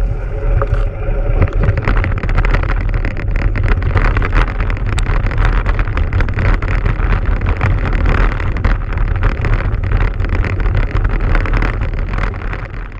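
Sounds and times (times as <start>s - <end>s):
vehicle rumble on gravel: 0.0s - 12.9s
wind buffeting microphone: 0.0s - 12.9s.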